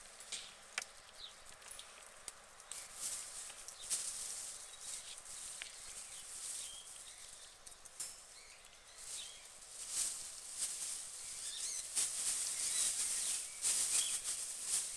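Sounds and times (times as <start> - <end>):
rustle of straw and shavings: 0.0 - 14.9.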